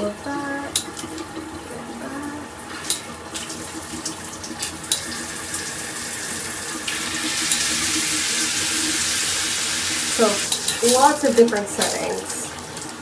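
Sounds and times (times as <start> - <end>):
shower head water spraying: 0.0 - 13.0.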